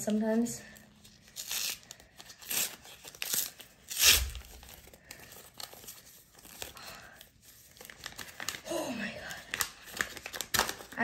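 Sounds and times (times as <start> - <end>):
paper ripping and crinkling: 1.1 - 11.0.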